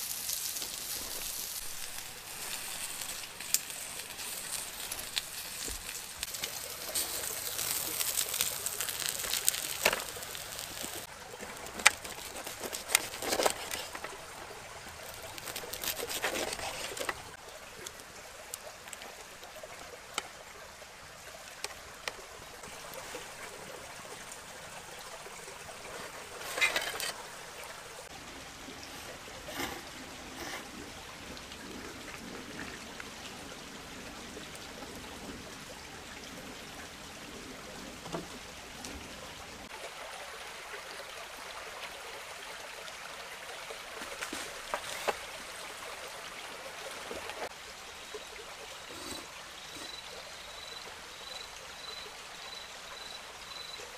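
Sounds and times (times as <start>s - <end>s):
water trickling: 0.0s - 53.9s.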